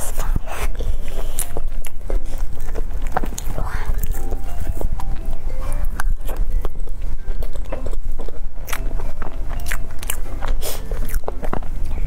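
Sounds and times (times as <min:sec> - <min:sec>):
person chewing cake: 0:00.0 - 0:12.0.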